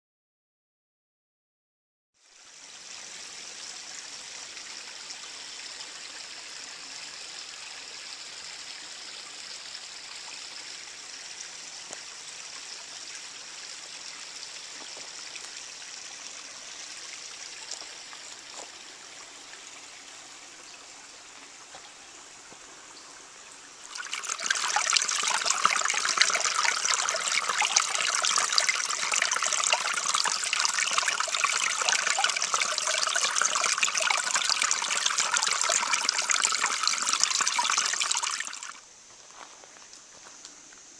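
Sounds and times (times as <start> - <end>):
creek water trickling over rocks: 2.2 - 40.9.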